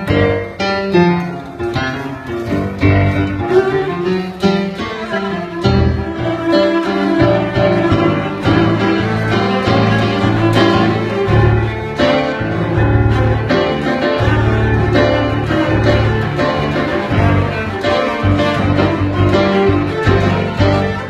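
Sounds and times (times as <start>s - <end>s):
rhythmic busker accompaniment: 0.0s - 21.0s
cello bowing sustained notes: 3.2s - 21.0s.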